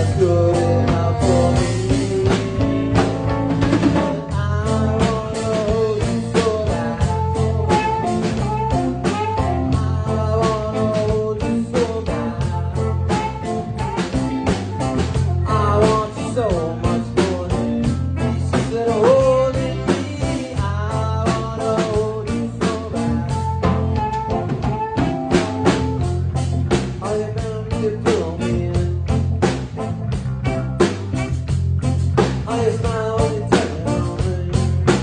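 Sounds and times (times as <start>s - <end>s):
bass line: 0.0s - 35.0s
drum kit beat: 0.0s - 35.0s
electric guitar: 0.0s - 35.0s.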